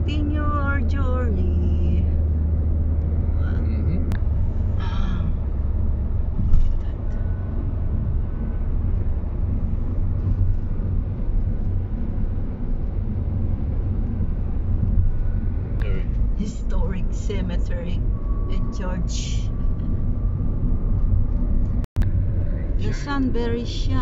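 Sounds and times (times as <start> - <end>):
car engine rumble: 0.0 - 24.0
tyres on road: 0.0 - 24.0.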